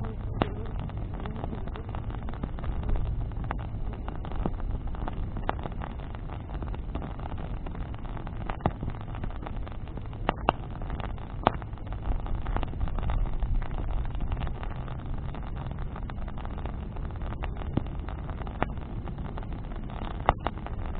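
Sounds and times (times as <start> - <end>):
bonfire crackling and popping: 0.0 - 20.9
low fire rumble: 0.0 - 20.9.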